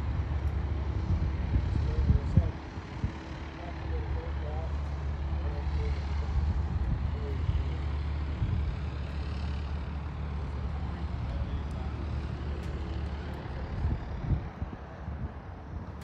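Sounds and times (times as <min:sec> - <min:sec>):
constant hum: 0:00.0 - 0:16.0
engine drone: 0:00.0 - 0:16.0.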